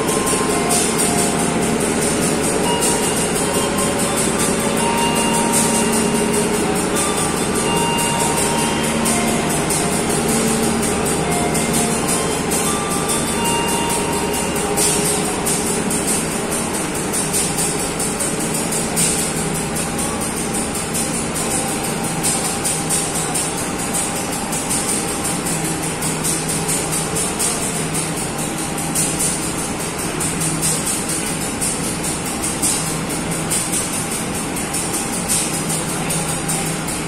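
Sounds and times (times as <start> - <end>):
music playing: 0.0 - 37.0
train wheels rolling on rails: 0.0 - 37.0.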